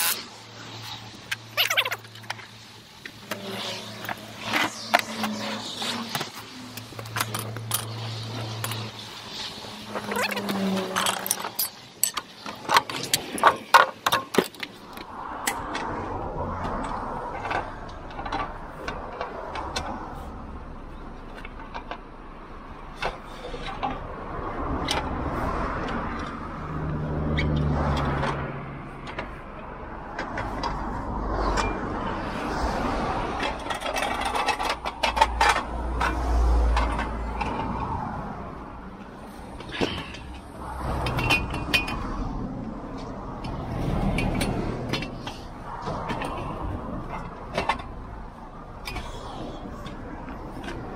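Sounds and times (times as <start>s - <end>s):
metal wheel dollies clanking: 0.0s - 24.1s, 27.4s - 50.9s
metal scraping on tarmac: 0.0s - 50.9s.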